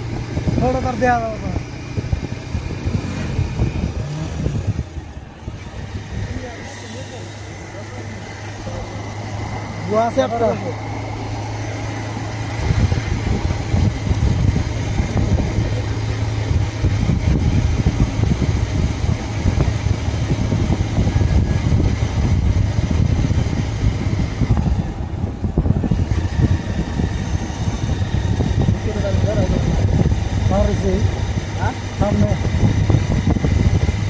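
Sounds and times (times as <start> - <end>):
motorcycle engine rumbling: 0.0 - 34.0.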